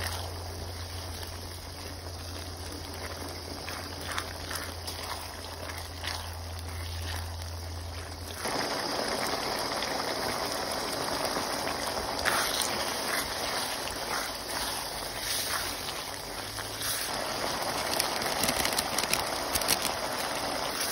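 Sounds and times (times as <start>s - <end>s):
spatula stirring and scraping: 0.0s - 8.5s, 11.7s - 20.9s
sauce simmering in a pan: 0.0s - 20.9s.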